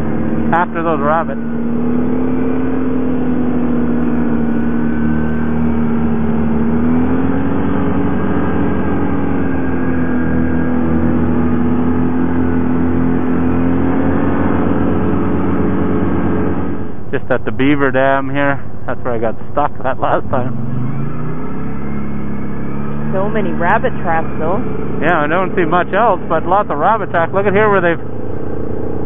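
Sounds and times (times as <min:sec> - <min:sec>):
tracked atv engine running: 0:00.0 - 0:29.0.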